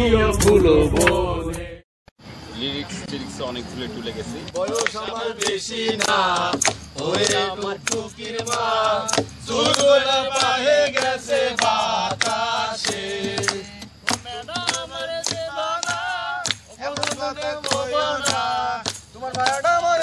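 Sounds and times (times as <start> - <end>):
men singing in chorus: 0.0 - 1.8, 4.5 - 20.0.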